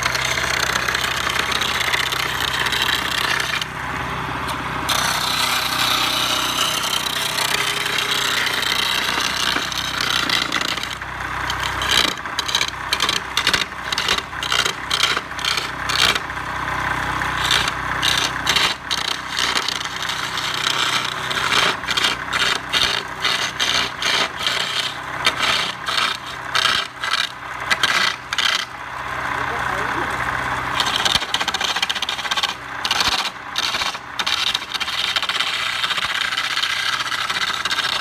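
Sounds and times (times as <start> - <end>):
tool scraping wood: 0.0 - 16.3, 17.0 - 28.8, 30.8 - 38.0
faint motor hum: 0.0 - 38.0.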